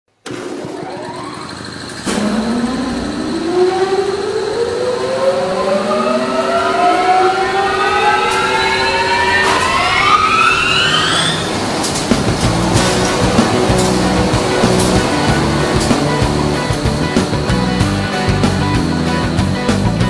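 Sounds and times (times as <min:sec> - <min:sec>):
rising whine: 0:01.2 - 0:19.8
steady hum: 0:02.1 - 0:19.5.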